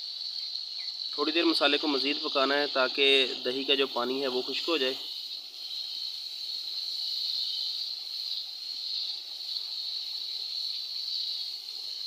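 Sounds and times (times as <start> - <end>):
masala sizzling in hot oil: 0.0 - 12.0.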